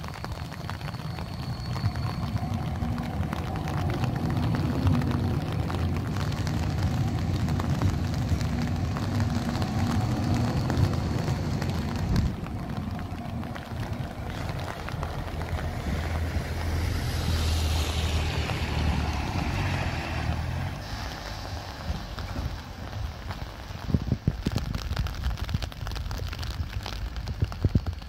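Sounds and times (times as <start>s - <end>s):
tram wheels rumbling on rails: 0.0s - 28.0s.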